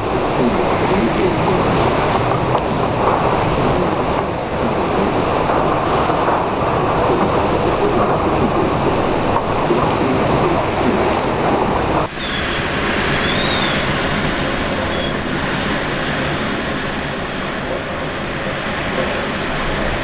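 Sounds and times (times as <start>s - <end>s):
wind and rain rushing: 0.0s - 20.0s.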